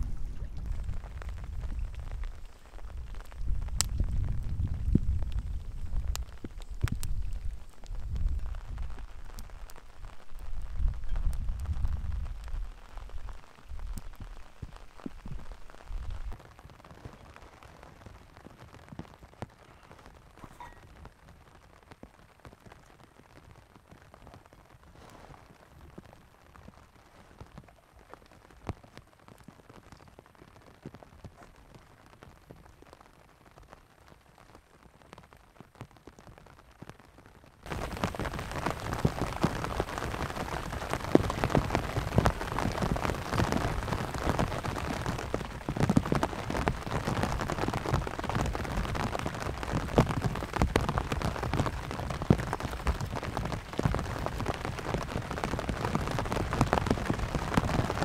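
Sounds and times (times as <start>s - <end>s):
rain pattering on a tent: 0.0s - 58.0s.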